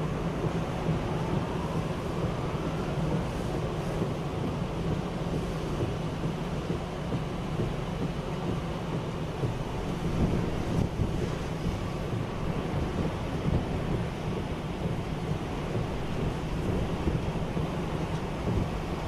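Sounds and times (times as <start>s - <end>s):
car driving on road: 0.0s - 19.0s
rain on car: 0.0s - 19.0s.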